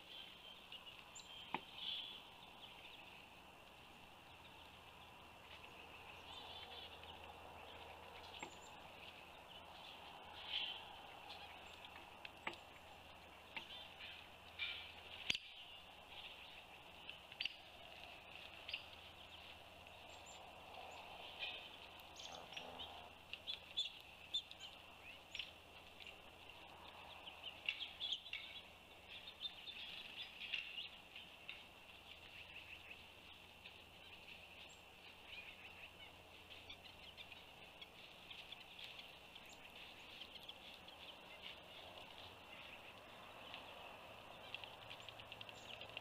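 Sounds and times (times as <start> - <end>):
small birds chirping: 0.0 - 46.0
steady background hiss: 0.0 - 46.0.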